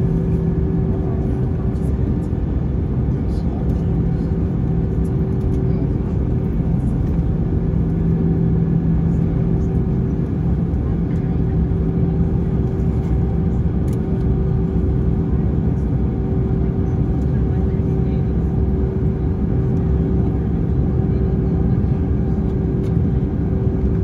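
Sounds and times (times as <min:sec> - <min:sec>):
droning hum: 0:00.0 - 0:24.0
low rumble of idling jet engines: 0:00.0 - 0:24.0.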